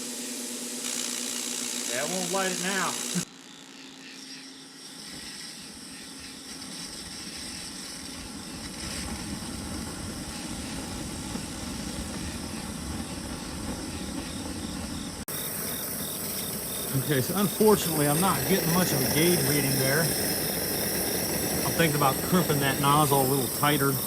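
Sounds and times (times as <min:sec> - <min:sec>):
propane burner hissing: 0:01.0 - 0:03.3, 0:04.8 - 0:24.0.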